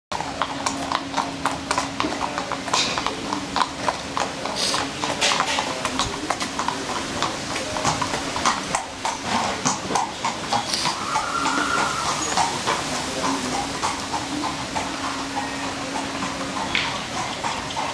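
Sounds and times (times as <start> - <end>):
horse hooves on asphalt: 0.1 - 17.9.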